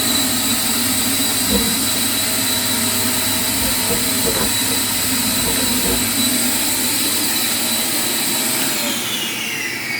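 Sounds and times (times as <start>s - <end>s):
machine running with hiss: 0.0s - 9.9s.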